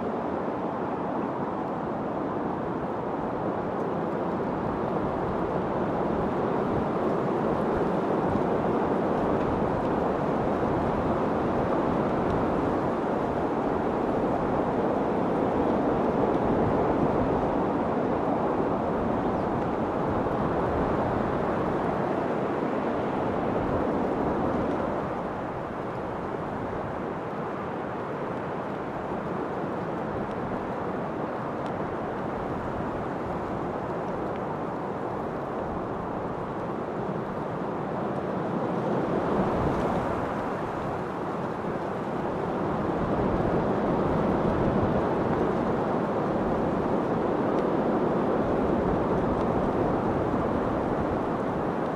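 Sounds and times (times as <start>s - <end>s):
rushing wind: 0.0s - 51.9s.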